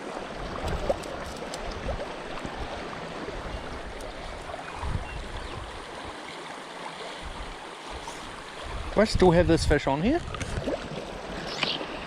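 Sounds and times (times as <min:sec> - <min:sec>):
river flowing: 0:00.0 - 0:09.5, 0:10.4 - 0:12.0.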